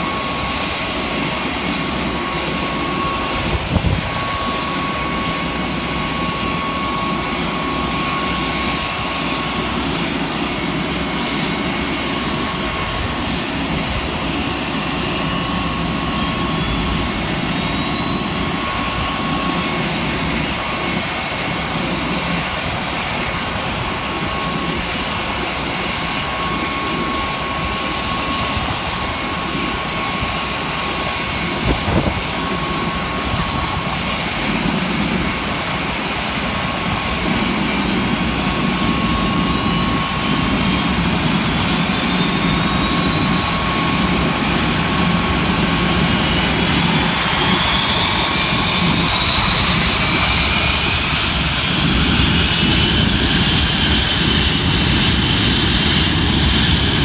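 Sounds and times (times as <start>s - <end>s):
engine spooling up: 0.0s - 57.0s
jet engines whining: 0.0s - 57.0s.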